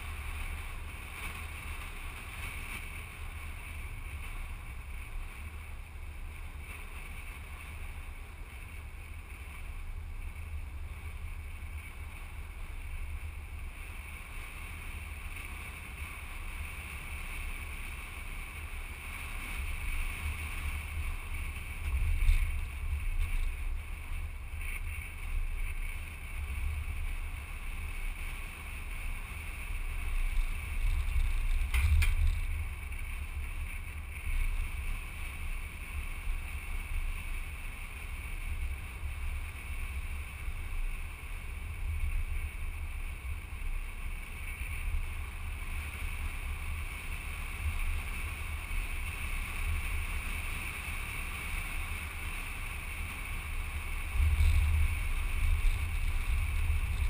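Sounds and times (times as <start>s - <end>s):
road noise rumble: 0.0s - 57.0s
wind rushing over microphone: 0.0s - 57.0s.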